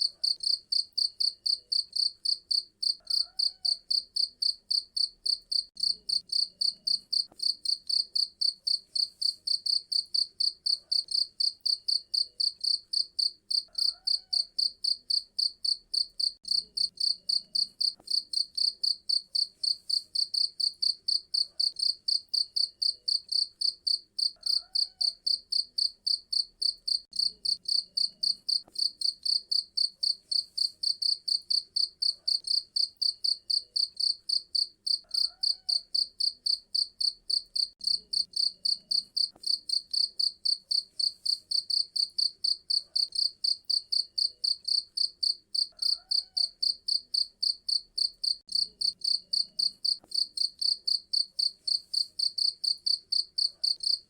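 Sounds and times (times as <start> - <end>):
cricket chirping: 0.2 - 54.0.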